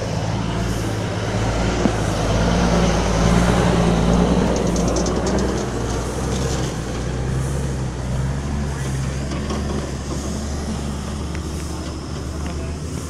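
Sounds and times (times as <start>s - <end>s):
steam traction engine roaring: 0.0s - 13.0s.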